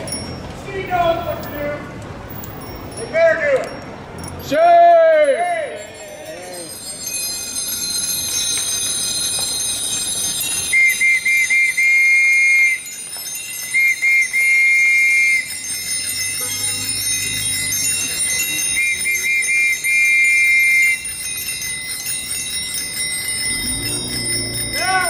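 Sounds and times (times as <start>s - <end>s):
many bicycle bells ringing: 0.0s - 25.0s
nearer bicycle bell dinging: 0.0s - 25.0s.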